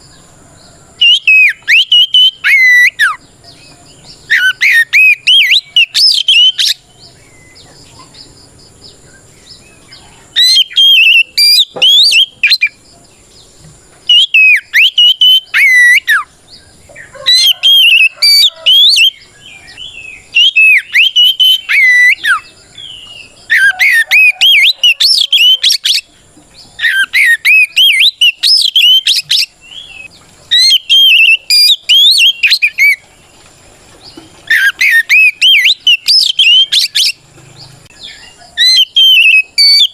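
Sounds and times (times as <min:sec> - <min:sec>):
bird singing whistled song: 0:00.0 - 0:12.8, 0:14.1 - 0:33.1, 0:34.0 - 0:39.9.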